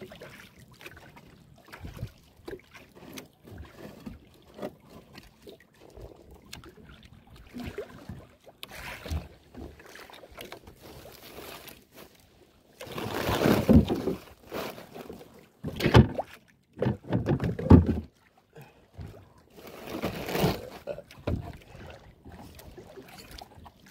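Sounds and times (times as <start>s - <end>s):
choppy sea slapping against hull: 0.0s - 12.2s, 12.8s - 18.3s, 18.9s - 23.9s.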